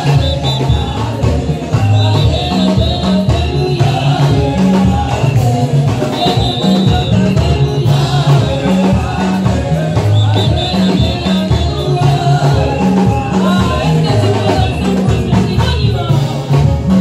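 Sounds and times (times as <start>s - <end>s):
congregation singing gospel music: 0.0s - 17.0s
quick steady percussion: 0.0s - 17.0s
stepping bass line: 0.0s - 17.0s.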